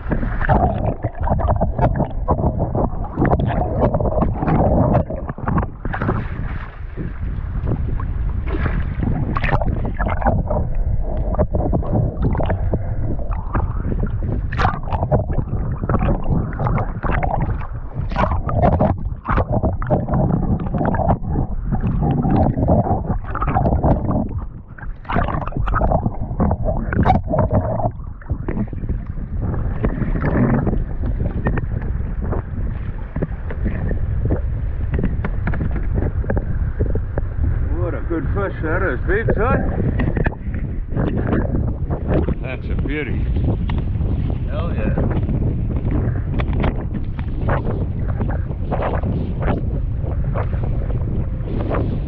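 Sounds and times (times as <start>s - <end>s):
water sloshing against kayak hull: 0.0s - 52.0s
wind buffeting microphone: 0.0s - 52.0s.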